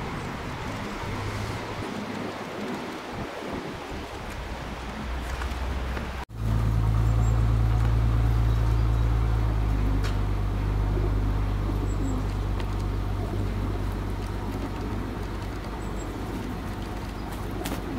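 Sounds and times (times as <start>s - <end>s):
vehicle engine rumbling: 0.0s - 17.9s.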